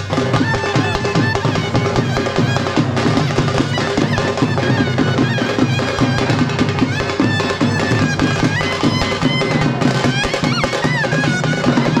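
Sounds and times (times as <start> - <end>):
frame drums beating: 0.0 - 12.0
wavering wind instrument melody: 0.0 - 12.0.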